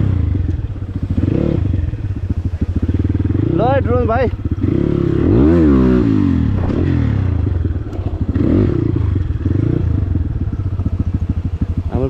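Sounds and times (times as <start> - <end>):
dirt bike engine revving: 1.0 - 12.0.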